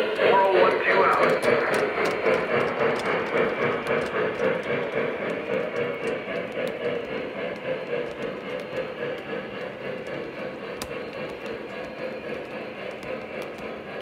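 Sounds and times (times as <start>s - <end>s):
model train cars rolling on track: 0.0s - 14.0s
wheels clicking on rails: 0.0s - 14.0s.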